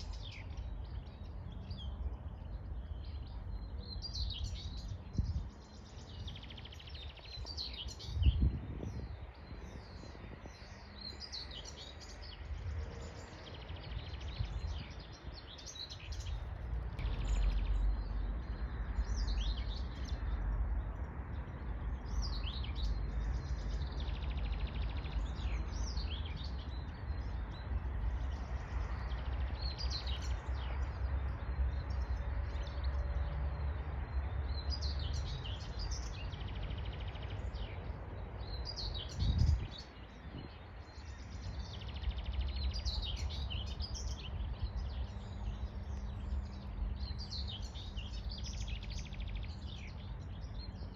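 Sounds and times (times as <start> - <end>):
low wind rumble: 0.0 - 50.9
songbirds singing: 0.0 - 50.9.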